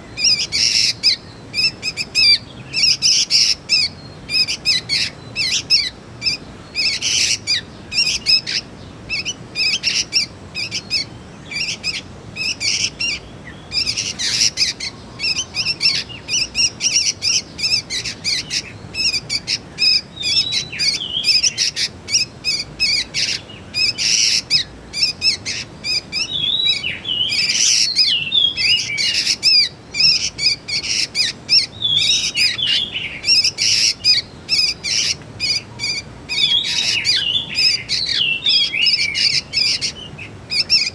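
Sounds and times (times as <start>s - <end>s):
young birds chirping: 0.0s - 40.9s.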